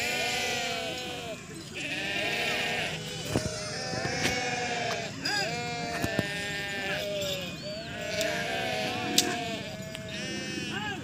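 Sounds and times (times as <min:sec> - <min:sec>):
animals bleating: 0:00.0 - 0:11.0.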